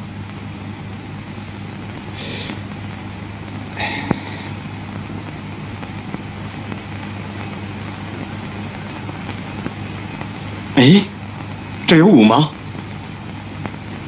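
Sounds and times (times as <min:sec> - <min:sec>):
soundtrack hiss and hum: 0:00.0 - 0:14.0.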